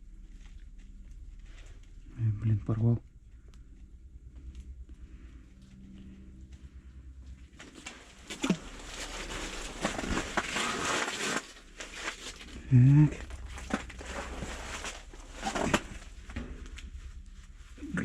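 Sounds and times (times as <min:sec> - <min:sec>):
rustling and crinkling: 0:00.0 - 0:02.2, 0:03.1 - 0:18.0.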